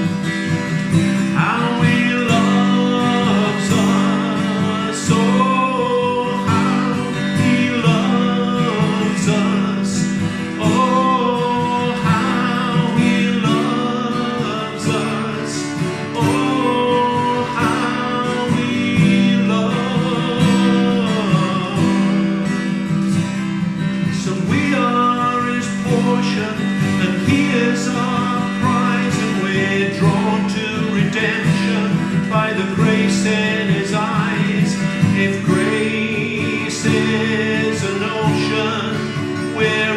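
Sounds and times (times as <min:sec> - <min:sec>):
acoustic guitar: 0:00.0 - 0:39.9
person singing: 0:00.0 - 0:39.9.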